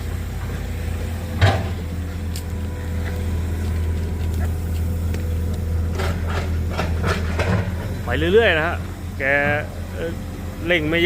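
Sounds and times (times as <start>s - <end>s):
distant excavator diesel engine: 0.0s - 11.0s.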